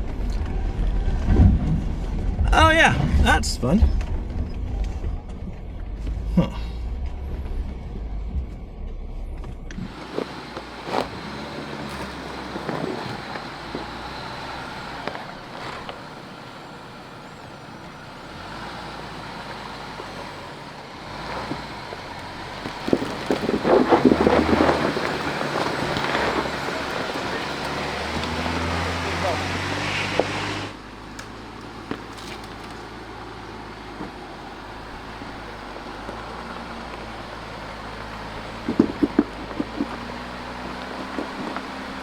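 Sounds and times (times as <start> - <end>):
low engine hum: 0.0 - 42.0
tyre noise on rocky trail: 0.0 - 42.0.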